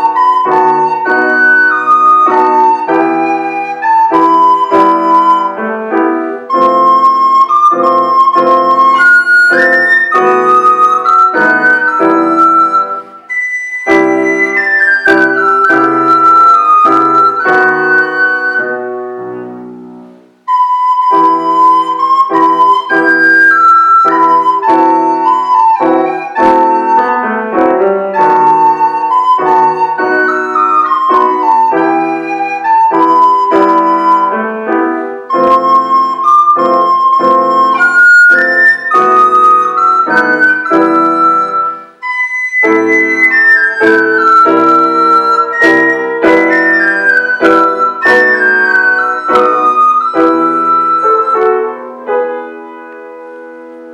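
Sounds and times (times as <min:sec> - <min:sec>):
piano accompaniment: 0:00.0 - 0:53.9
recorder playing slow melody: 0:00.0 - 0:53.9.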